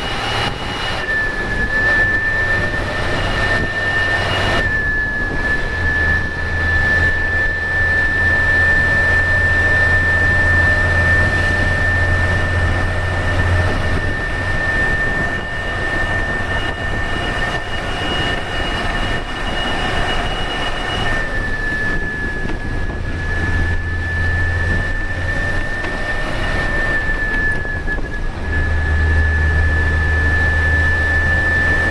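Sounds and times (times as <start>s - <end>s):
diesel engine drone: 0.0s - 31.9s
turbocharger whistling: 0.0s - 31.9s.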